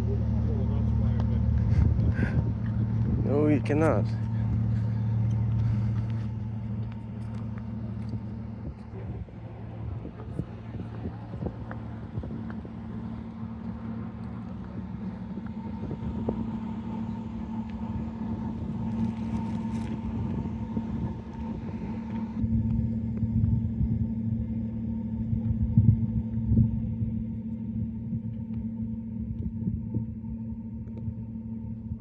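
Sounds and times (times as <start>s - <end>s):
low mechanical hum: 0.0s - 32.0s
low rumbling noise: 0.0s - 32.0s.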